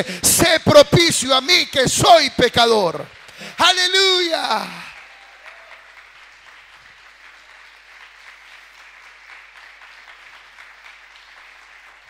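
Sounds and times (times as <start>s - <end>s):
congregation applauding: 0.0s - 12.0s.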